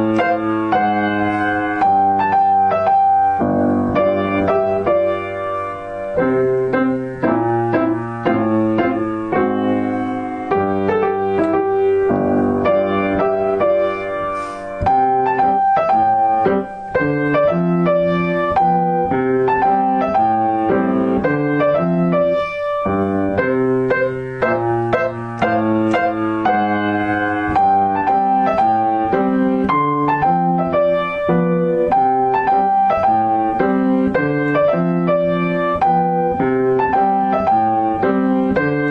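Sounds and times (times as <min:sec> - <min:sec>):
piano music: 0:00.0 - 0:38.9.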